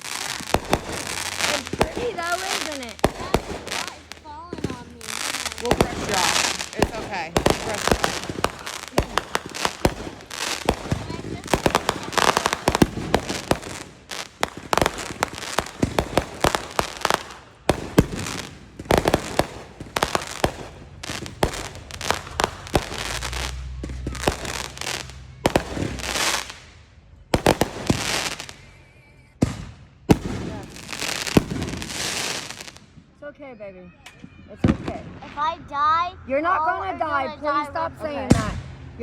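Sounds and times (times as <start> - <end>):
fireworks bangs and crackling: 0.0 - 33.2, 34.1 - 35.6, 38.3 - 39.0.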